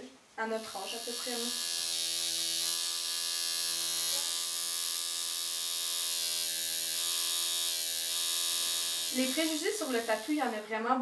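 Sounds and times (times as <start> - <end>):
tattoo machine buzzing: 0.6 - 10.7.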